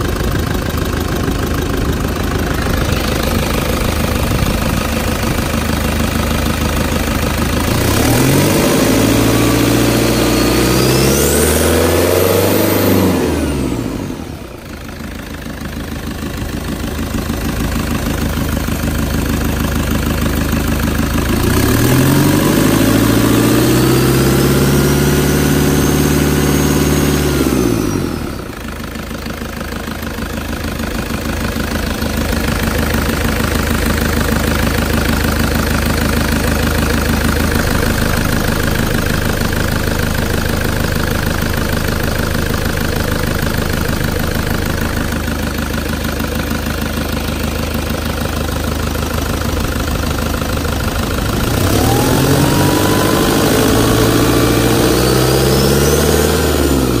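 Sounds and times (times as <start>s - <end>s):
diesel engine idling and revving: 0.0s - 57.0s.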